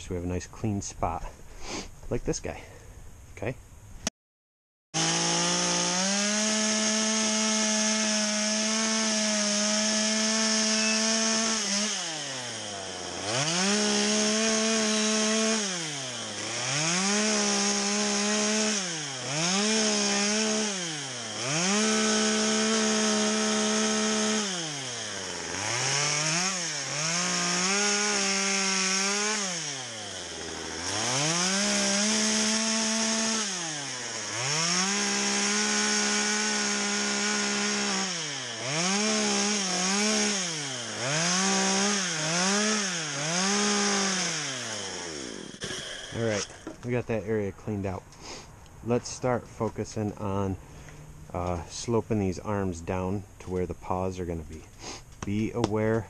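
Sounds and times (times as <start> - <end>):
chainsaw cutting log: 5.0 - 53.7.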